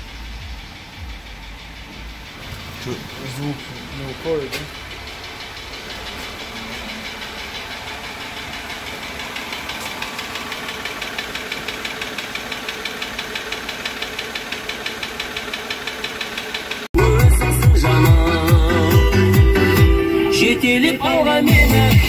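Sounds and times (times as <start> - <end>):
car engine idling: 0.0 - 22.0
rapid engine ticking: 0.0 - 22.0.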